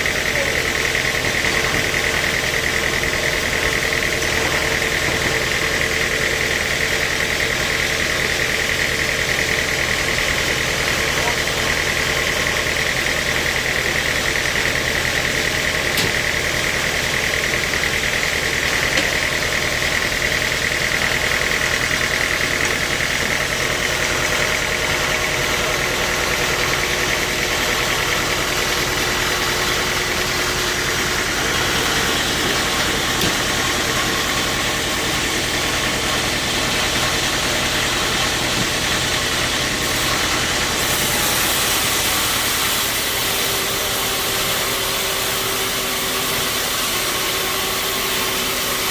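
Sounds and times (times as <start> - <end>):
engine hum: 0.0 - 48.3
sawmill machinery running: 0.0 - 48.9.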